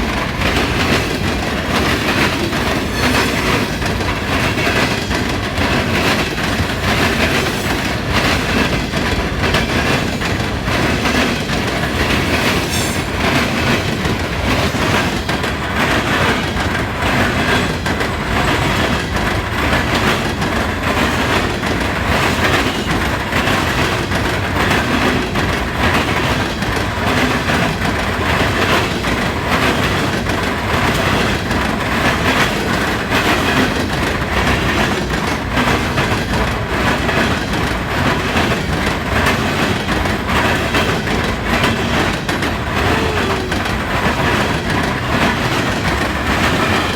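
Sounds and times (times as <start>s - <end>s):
train wheels hammering over crossings: 0.0s - 46.9s.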